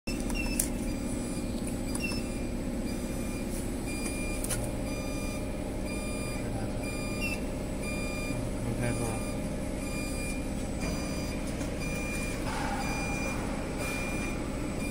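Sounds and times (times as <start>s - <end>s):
electronic beep: 0.1s - 14.9s.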